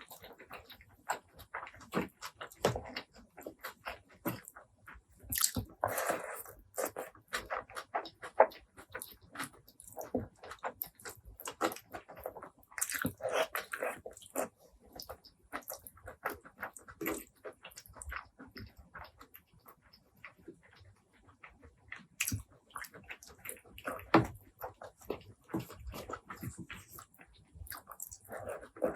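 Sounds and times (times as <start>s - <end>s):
person chewing with wet smacks: 0.0s - 28.9s.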